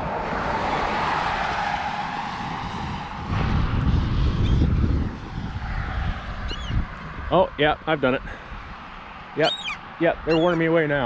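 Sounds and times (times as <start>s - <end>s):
steady outdoor rushing noise: 0.0s - 11.0s
wind buffeting microphone: 0.0s - 11.0s.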